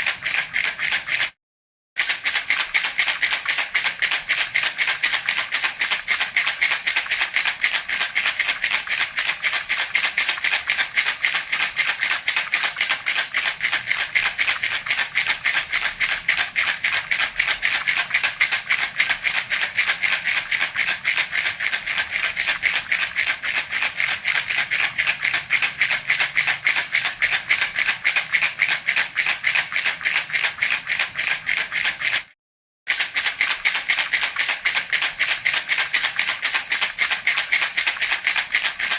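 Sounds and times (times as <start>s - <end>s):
baby rattle shaking: 0.0s - 1.3s, 2.0s - 32.3s, 32.9s - 38.9s.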